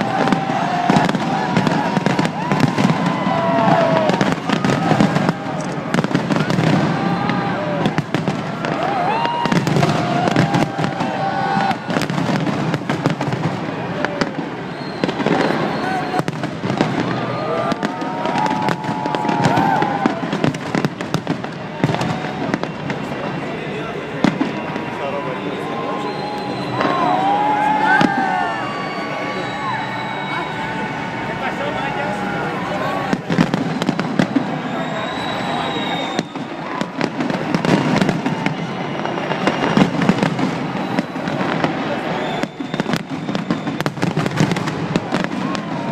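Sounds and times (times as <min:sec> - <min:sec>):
crowd hubbub: 0:00.0 - 0:45.9
fireworks bangs and crackles: 0:00.0 - 0:45.9
fireworks whistling: 0:00.0 - 0:45.9.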